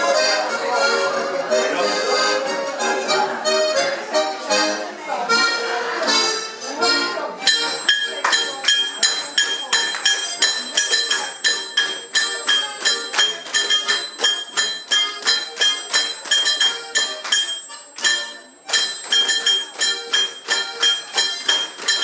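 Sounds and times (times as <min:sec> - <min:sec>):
accordion folk dance tune: 0:00.0 - 0:22.0.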